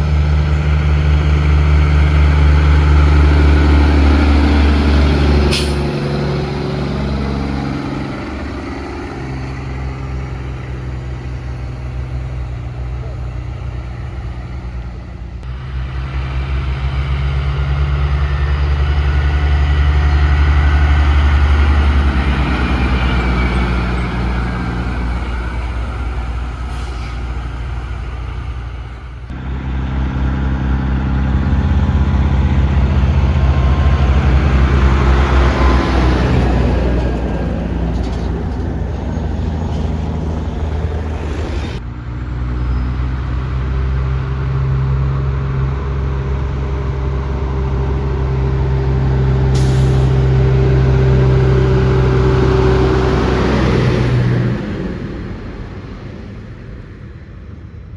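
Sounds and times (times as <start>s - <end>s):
truck engines passing by: 0.0s - 57.9s.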